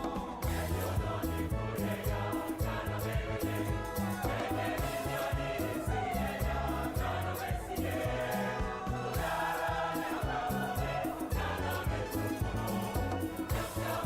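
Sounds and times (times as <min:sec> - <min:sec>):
choral gospel singing: 0:00.0 - 0:14.0
steady bass beat: 0:00.0 - 0:14.0.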